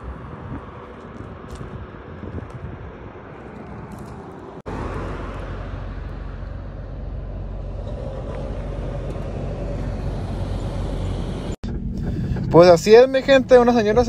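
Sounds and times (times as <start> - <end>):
roadside vehicle rumble: 0.0 - 14.0.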